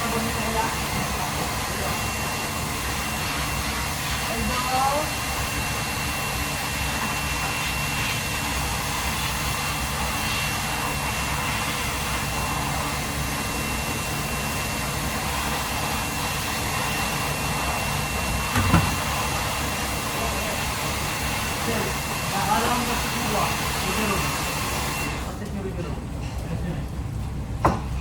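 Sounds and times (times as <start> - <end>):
machine noise with high whine: 0.0 - 28.0.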